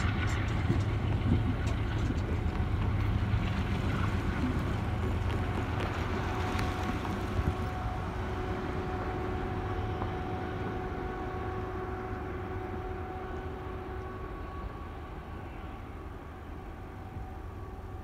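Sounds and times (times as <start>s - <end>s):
faint steady tones: 0.0s - 18.0s
freight train rumble: 0.0s - 18.0s.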